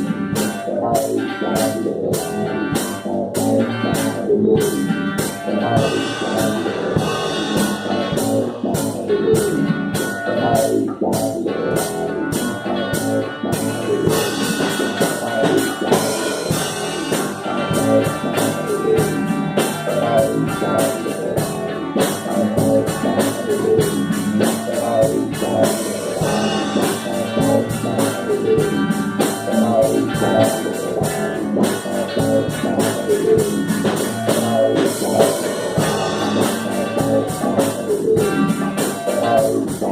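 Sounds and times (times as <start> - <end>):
drum kit beat: 0.0 - 39.9
electric guitars: 0.0 - 39.9
synthesizer: 0.0 - 39.9.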